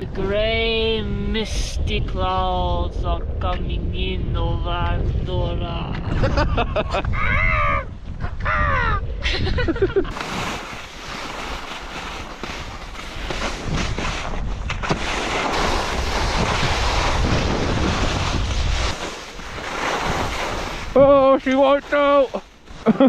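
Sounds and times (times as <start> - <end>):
wind buffeting microphone: 0.0 - 22.8.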